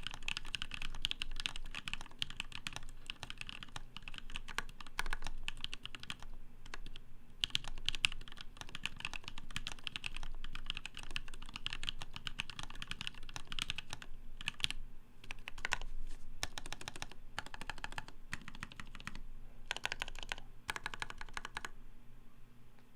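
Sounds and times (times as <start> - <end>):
mechanical keyboard typing: 0.0 - 21.8.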